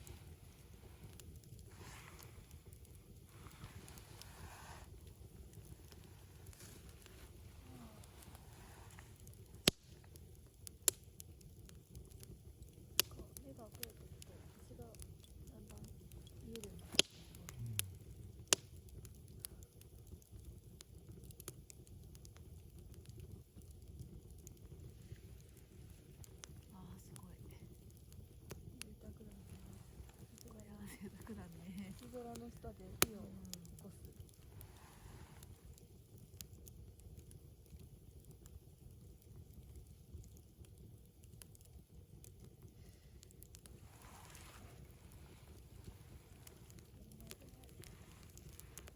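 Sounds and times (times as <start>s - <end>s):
campfire crackling: 0.0s - 48.9s
low steady rumble: 0.0s - 48.9s.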